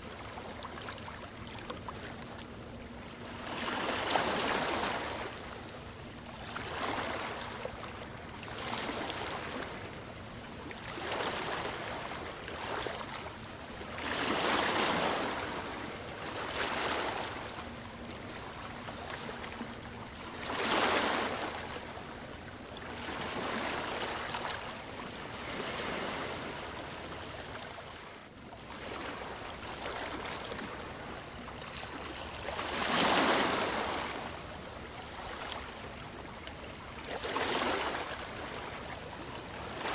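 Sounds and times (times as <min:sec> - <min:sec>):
sea waves breaking: 0:00.0 - 0:05.6, 0:06.5 - 0:07.8, 0:10.8 - 0:39.9.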